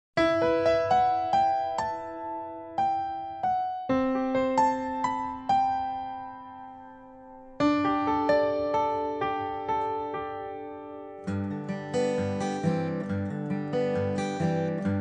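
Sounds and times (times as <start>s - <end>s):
solo piano ballad: 0.2s - 15.0s.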